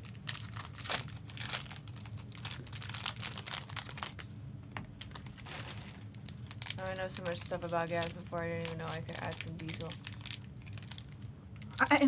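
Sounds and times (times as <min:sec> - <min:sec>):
foil wrappers crinkling: 0:00.0 - 0:04.3, 0:04.9 - 0:12.0
steady low hum: 0:00.0 - 0:12.0.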